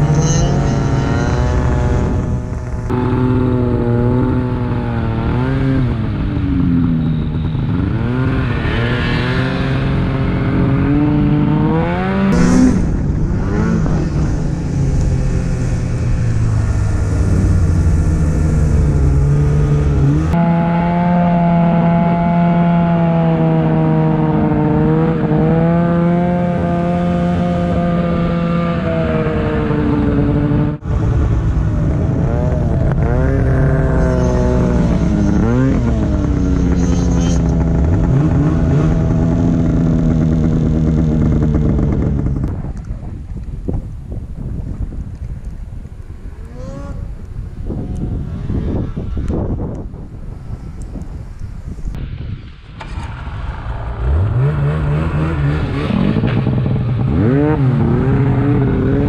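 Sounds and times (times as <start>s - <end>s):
snowmobile engine running hard: 0.0s - 43.4s, 54.0s - 59.0s.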